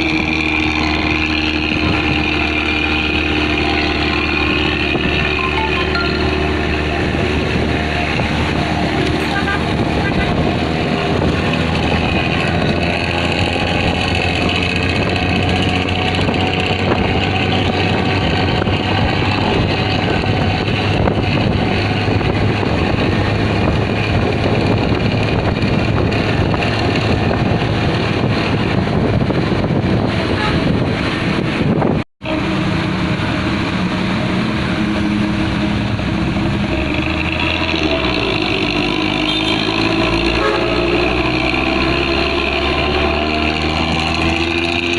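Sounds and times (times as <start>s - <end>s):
vehicle exhaust rumbling: 0.0s - 44.9s.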